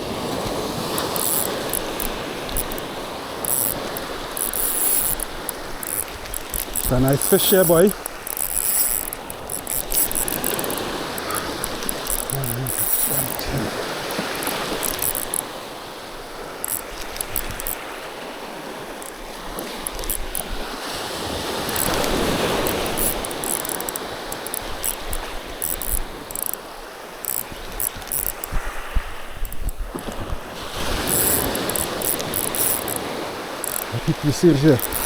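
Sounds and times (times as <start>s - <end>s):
sea waves washing on shore: 0.0s - 35.0s.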